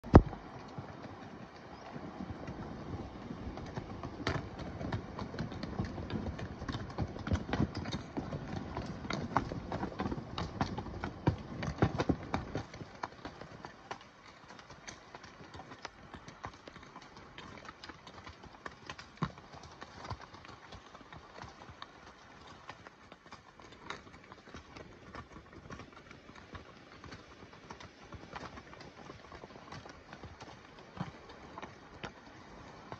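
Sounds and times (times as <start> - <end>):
horse hooves clopping on rocks: 0.0 - 32.9.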